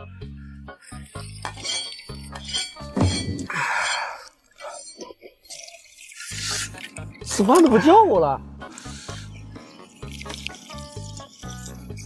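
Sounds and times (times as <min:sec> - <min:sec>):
person slurping porridge: 0:00.8 - 0:07.9, 0:08.6 - 0:12.0.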